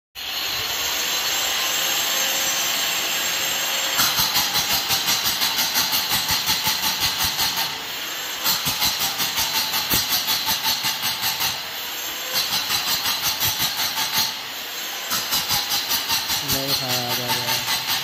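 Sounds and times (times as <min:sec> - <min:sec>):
angle grinder running: 0:00.2 - 0:18.0
grinder striking concrete: 0:00.6 - 0:18.0.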